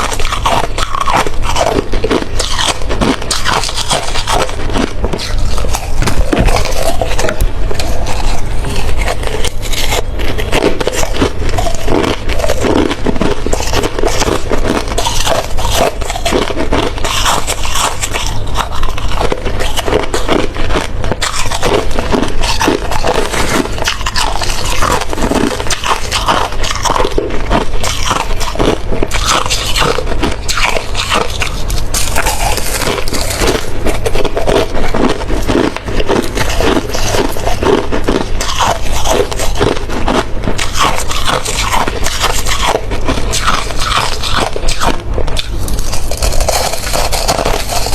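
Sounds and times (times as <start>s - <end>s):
ice crunching while chewed: 0.0s - 47.9s.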